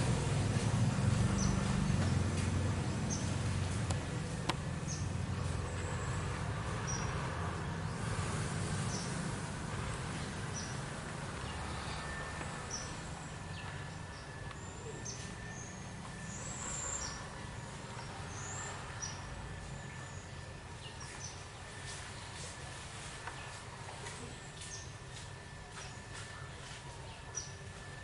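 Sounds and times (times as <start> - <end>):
birds chirping: 0.0 - 28.0
faint steady whine: 0.0 - 28.0
low steady hum: 0.0 - 28.0.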